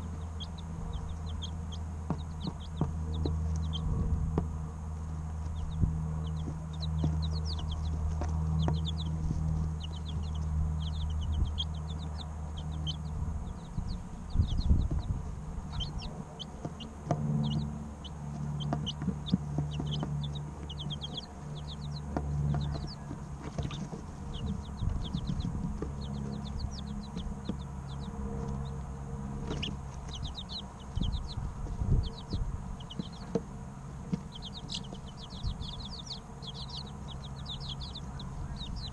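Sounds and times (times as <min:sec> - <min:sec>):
chicks peeping: 0:00.0 - 0:38.9
low hum: 0:00.0 - 0:38.9.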